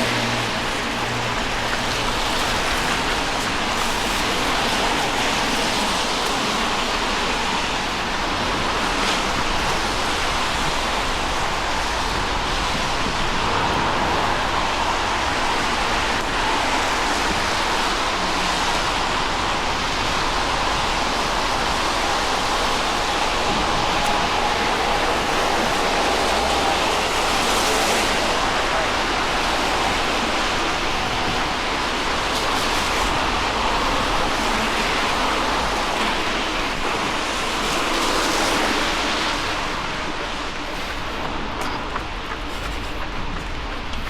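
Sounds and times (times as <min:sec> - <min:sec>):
rain falling on wet street: 0:00.0 - 0:44.0.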